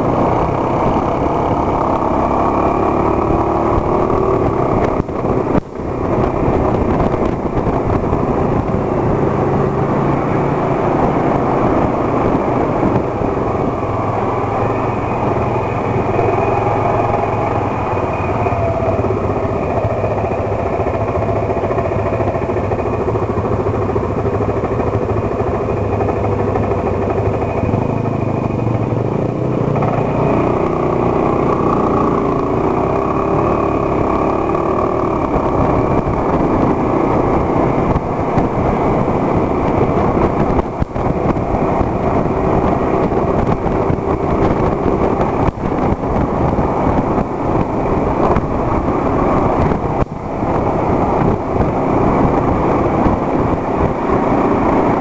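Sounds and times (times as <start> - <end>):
motorcycle engine running: 0.0 - 55.0
road noise: 0.0 - 55.0.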